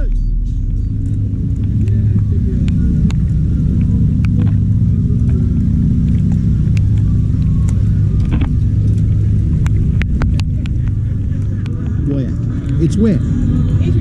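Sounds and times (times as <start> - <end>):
heavy bass from subwoofers: 0.0 - 14.0.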